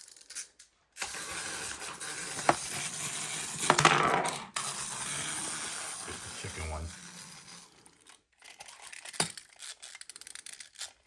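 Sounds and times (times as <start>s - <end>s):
toys handling noise: 0.0s - 11.0s.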